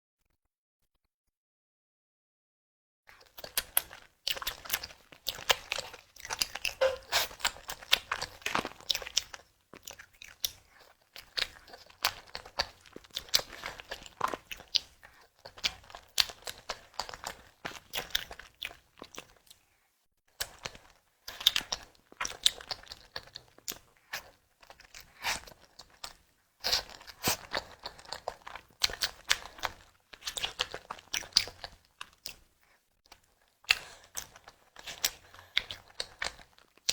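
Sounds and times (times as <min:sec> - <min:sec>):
dessert being bitten and chewed: 0:03.1 - 0:19.7, 0:20.3 - 0:36.9.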